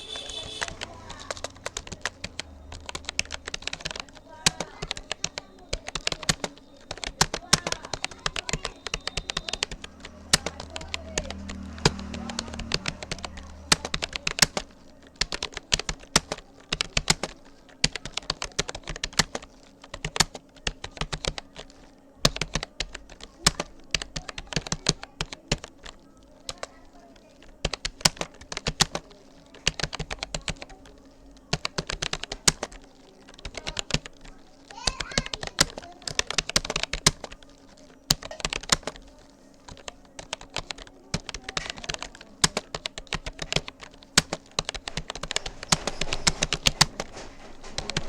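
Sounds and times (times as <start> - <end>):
keyboard typing clicks: 0.0 - 48.0.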